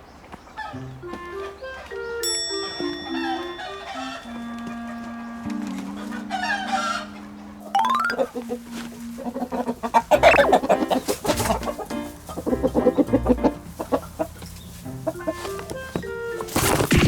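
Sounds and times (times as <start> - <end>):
chickens clucking: 0.0 - 17.0
background music: 0.6 - 17.0.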